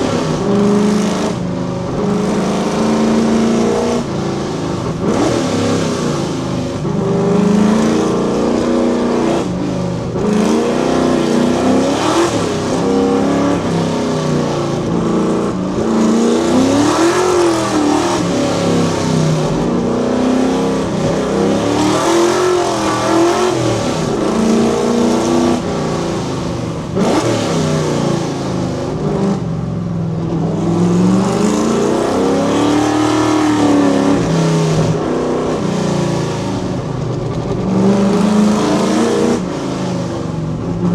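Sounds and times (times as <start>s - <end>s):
car engine revving hard: 0.0s - 40.9s.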